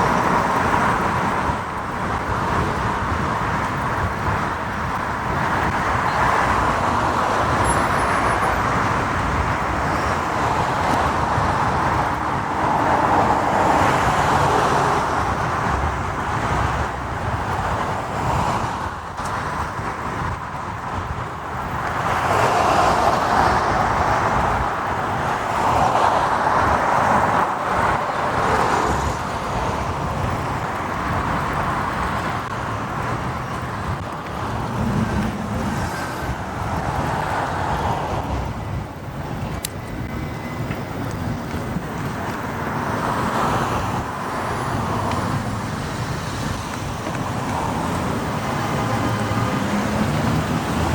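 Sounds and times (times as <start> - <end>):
surrounding traffic: 0.0 - 50.9
wind and road noise: 0.0 - 50.9.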